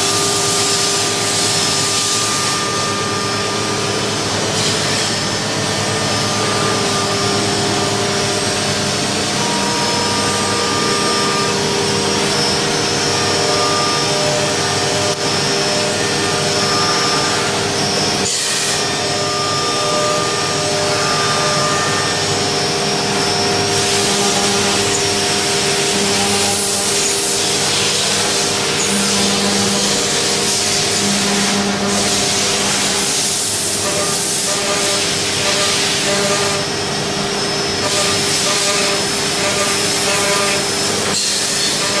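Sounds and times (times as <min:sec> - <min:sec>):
continuous machine hiss: 0:00.0 - 0:42.0
milling machine steady tones: 0:00.0 - 0:42.0.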